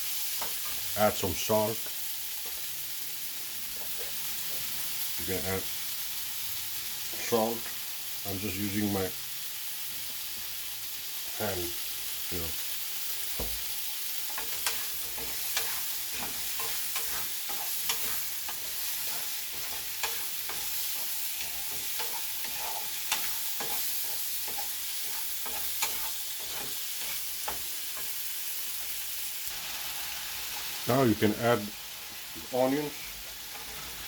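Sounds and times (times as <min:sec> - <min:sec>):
vegetables and meat sizzling in a pan: 0:00.0 - 0:34.0.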